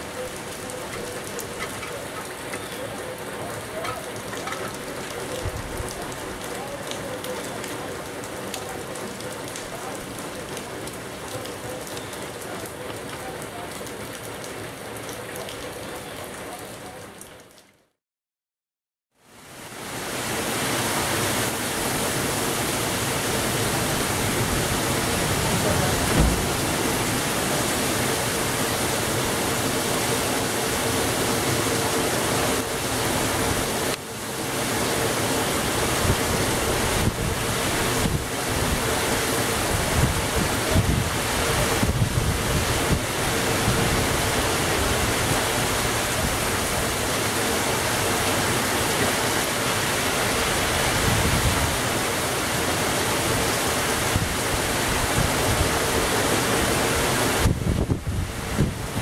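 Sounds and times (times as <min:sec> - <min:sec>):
heavy rain falling: 0:00.0 - 0:18.0, 0:19.2 - 0:59.0.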